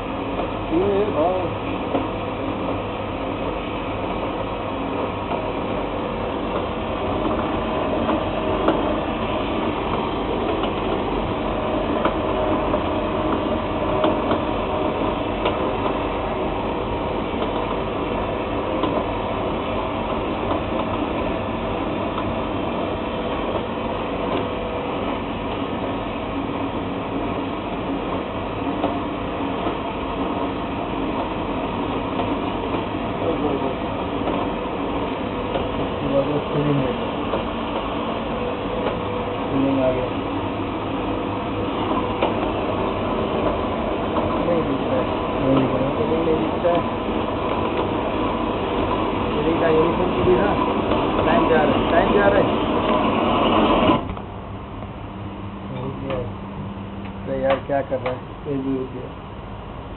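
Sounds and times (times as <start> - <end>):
sealer machine humming: 0.0 - 59.9.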